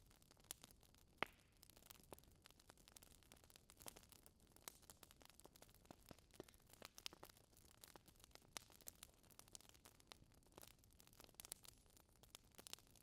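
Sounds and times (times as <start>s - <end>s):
fire crackling: 0.5s - 12.9s.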